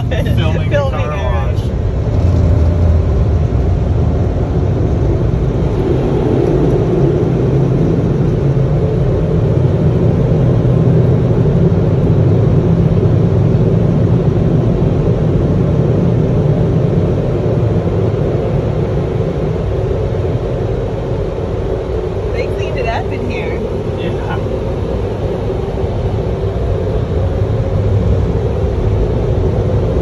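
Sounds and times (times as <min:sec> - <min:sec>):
car wash blowers rushing air: 0:00.0 - 0:30.0.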